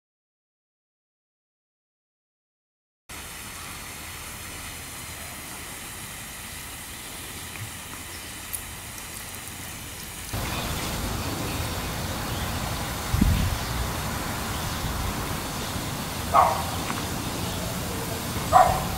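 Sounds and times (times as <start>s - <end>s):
sprinkler water spraying: 3.1s - 18.9s.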